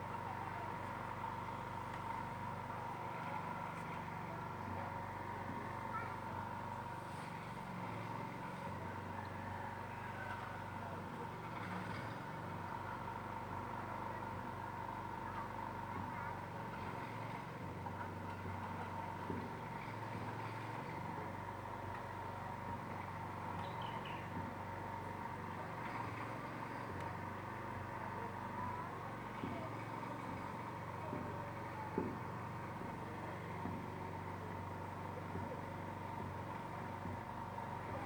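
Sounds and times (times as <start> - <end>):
faint voices: 0.0 - 38.0.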